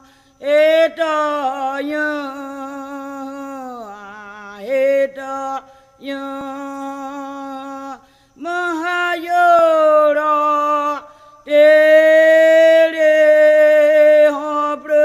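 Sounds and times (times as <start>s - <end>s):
person chanting unaccompanied: 0.0s - 15.0s.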